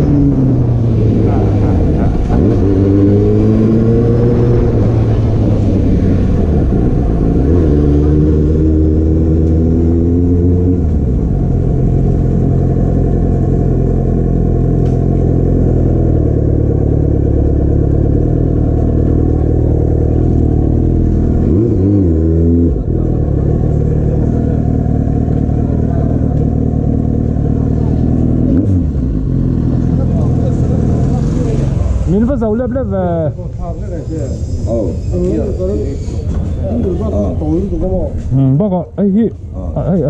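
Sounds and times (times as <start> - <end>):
motorcycle engine revving: 0.0 - 32.8.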